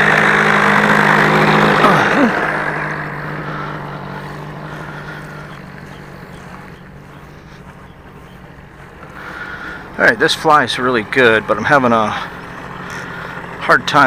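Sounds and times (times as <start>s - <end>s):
model plane engine passing: 0.0s - 14.0s.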